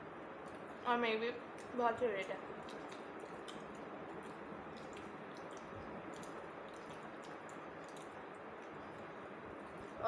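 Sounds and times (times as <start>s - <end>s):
faint chewing and mouth sounds: 0.3s - 10.0s.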